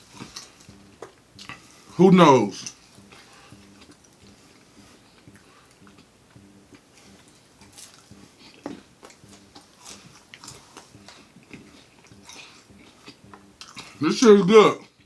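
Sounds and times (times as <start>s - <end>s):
person chewing fried food: 0.0s - 2.0s, 2.6s - 14.0s.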